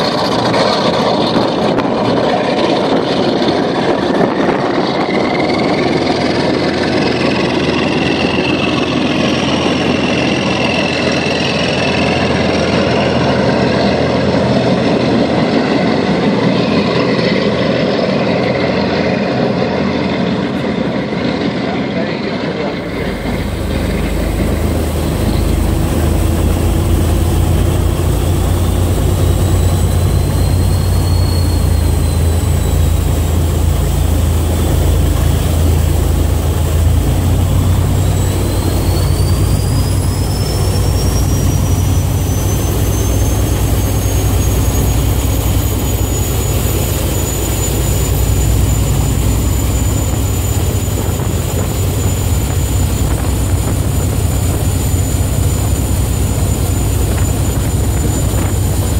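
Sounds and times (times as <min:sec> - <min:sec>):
boat engines rumbling: 0:00.0 - 0:58.9
turbocharger whine: 0:00.0 - 0:58.9.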